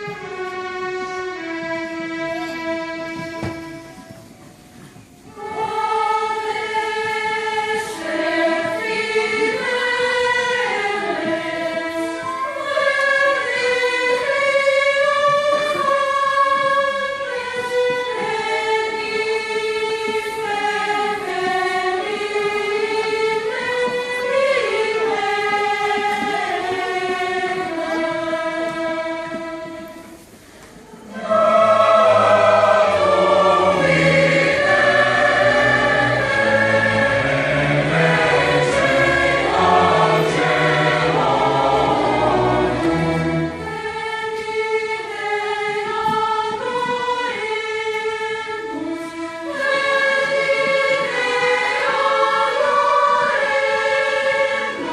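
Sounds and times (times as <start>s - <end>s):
choir singing slow melody: 0.0s - 54.9s.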